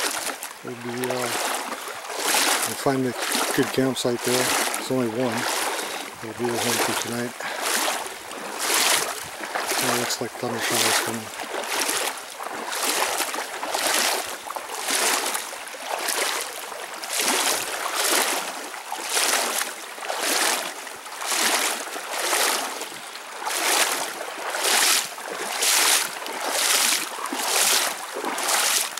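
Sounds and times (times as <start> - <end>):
paddle strokes splashing: 0.0 - 28.9
rippling creek current: 0.0 - 28.9.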